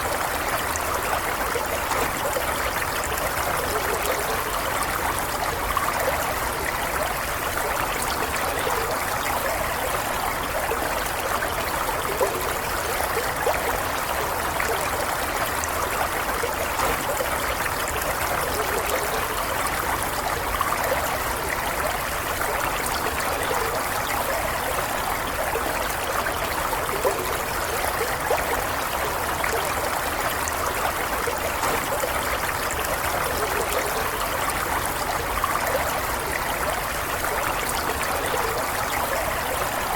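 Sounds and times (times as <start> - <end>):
stream trickling and gurgling: 0.0 - 39.9.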